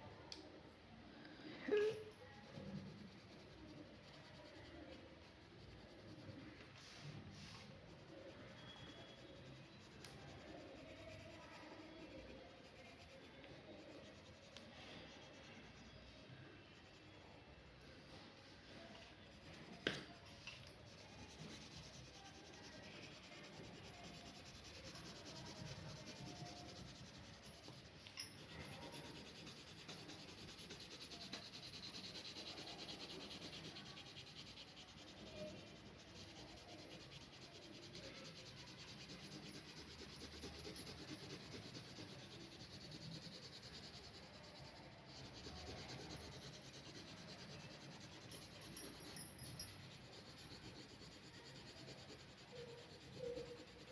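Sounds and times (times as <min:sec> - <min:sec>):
pen scratching on paper: 0:02.2 - 0:17.2, 0:18.1 - 0:53.9.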